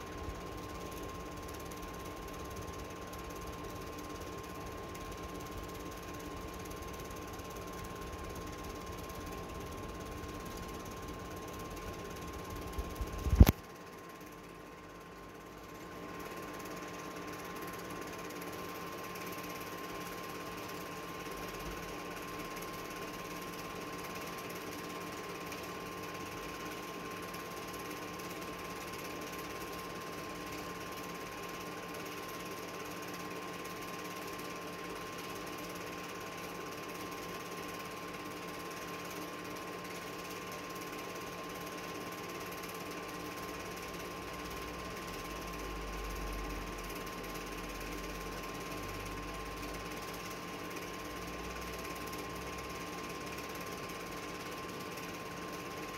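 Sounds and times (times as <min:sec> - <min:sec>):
film projector whirring: 0:00.0 - 0:55.9.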